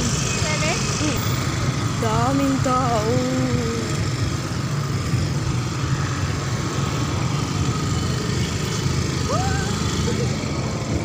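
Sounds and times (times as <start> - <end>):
engines running: 0.0 - 11.0
road traffic rumble: 0.0 - 11.0.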